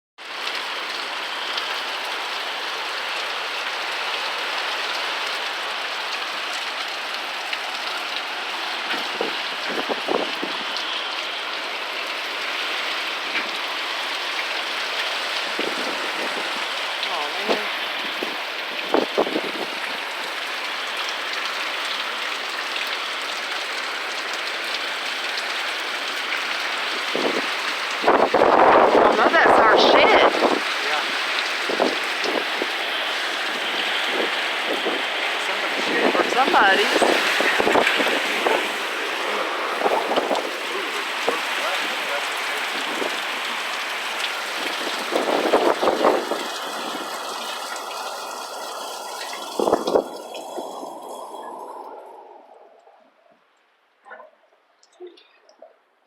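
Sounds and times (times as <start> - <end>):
rain falling steadily: 0.2 - 56.0.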